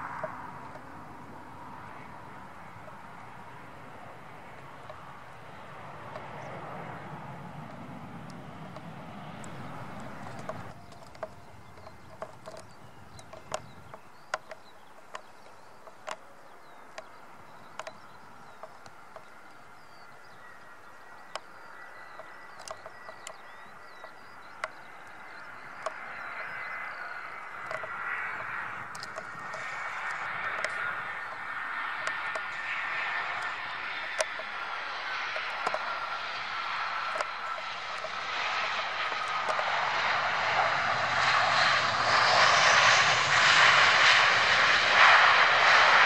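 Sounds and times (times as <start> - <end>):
jet airliner engines rumbling: 0.0 - 46.0
jet engine whine: 0.0 - 46.0.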